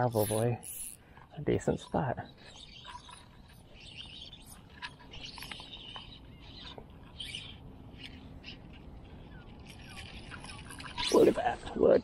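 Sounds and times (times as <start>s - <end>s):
faint bird chirps: 0.0s - 11.4s.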